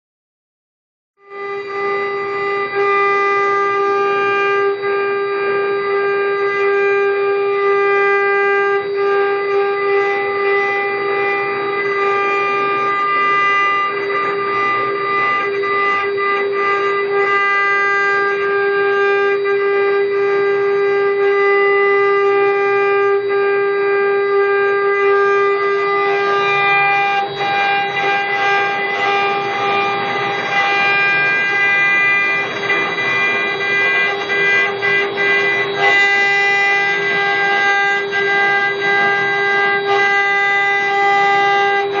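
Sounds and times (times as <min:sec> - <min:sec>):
router spindles whining: 0:01.2 - 0:42.0
router bits cutting wood: 0:01.3 - 0:42.0.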